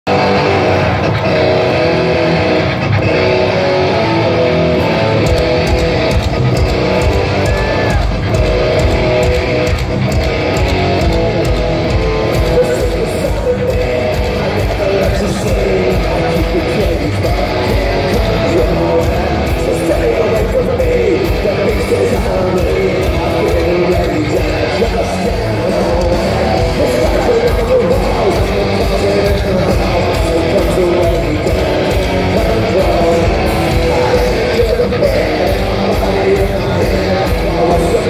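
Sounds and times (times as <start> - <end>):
live rock band: 0.1 - 38.0
pounding drum beat: 5.2 - 38.0.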